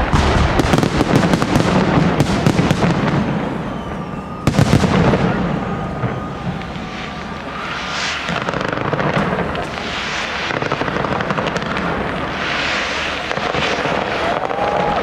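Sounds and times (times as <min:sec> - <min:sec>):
fireworks crackling and popping: 0:00.0 - 0:15.0
fireworks hissing burst: 0:00.0 - 0:15.0.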